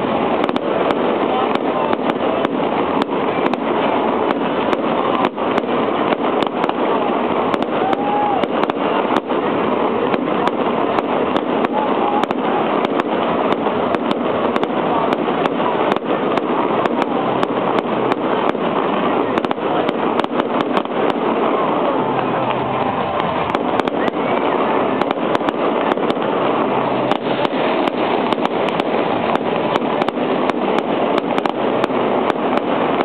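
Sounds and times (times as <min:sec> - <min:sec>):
dense hiss: 0:00.0 - 0:33.0
fireworks pops and bangs: 0:00.0 - 0:33.0.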